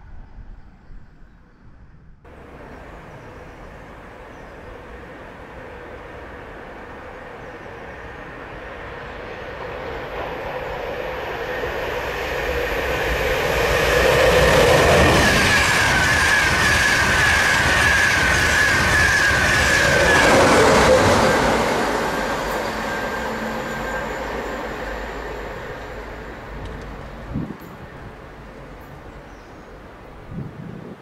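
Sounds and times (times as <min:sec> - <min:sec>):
electric train passing: 0:02.3 - 0:30.8.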